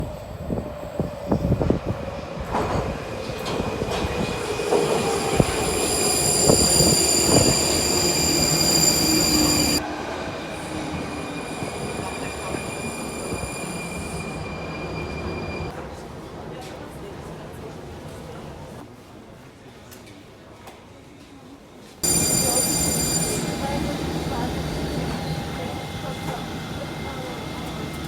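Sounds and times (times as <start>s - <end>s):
metro train rumbling: 0.0s - 18.8s, 22.0s - 28.0s.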